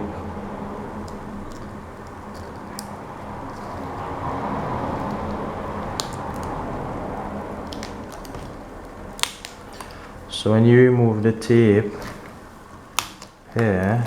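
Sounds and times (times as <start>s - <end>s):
adhesive tape peeling: 0.8s - 10.4s, 11.6s - 14.0s.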